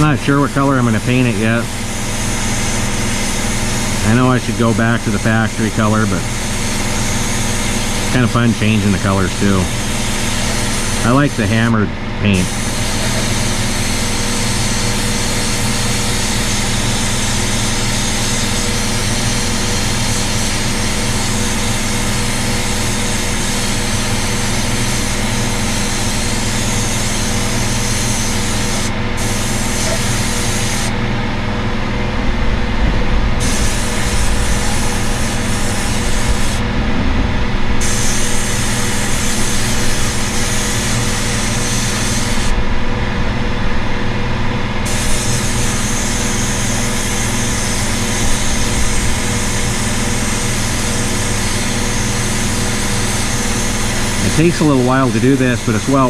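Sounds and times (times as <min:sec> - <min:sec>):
air blasting gun hissing: 0:00.0 - 0:31.0, 0:33.4 - 0:36.7, 0:37.8 - 0:42.6, 0:44.8 - 0:56.0
air compressor humming: 0:00.0 - 0:56.0.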